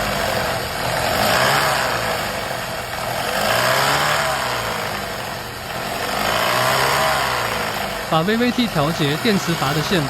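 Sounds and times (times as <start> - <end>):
car engine pulsing noise: 0.0 - 10.0.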